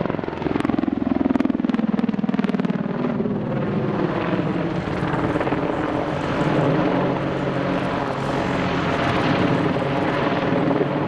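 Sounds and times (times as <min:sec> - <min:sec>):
helicopter rotors and engines: 0:00.0 - 0:11.0.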